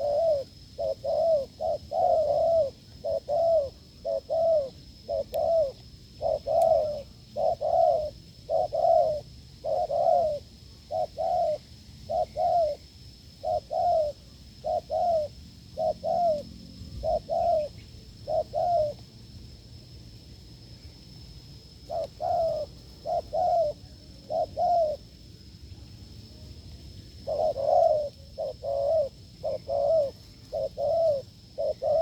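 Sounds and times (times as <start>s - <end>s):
dove cooing: 0.0s - 19.0s, 21.7s - 25.1s, 27.2s - 32.0s.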